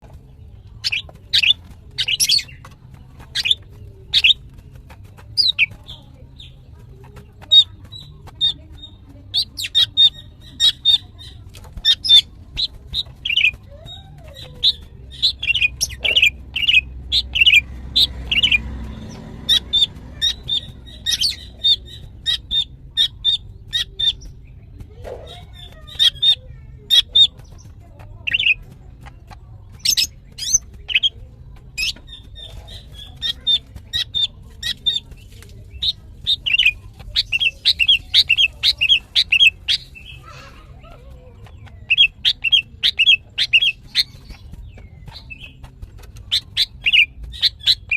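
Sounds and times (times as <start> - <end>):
bird chirping: 0.0 - 47.9.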